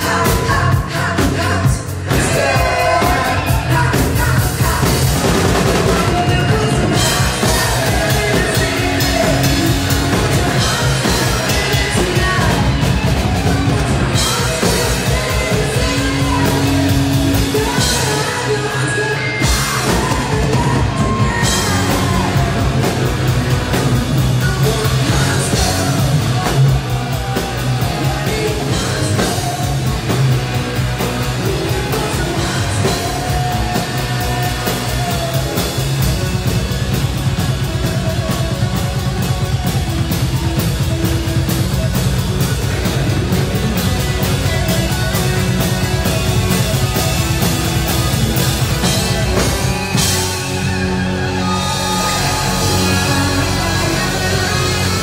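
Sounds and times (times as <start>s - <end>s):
people singing: 0.0s - 36.4s, 42.4s - 55.0s
drums: 0.0s - 55.0s
electric guitar: 0.0s - 55.0s.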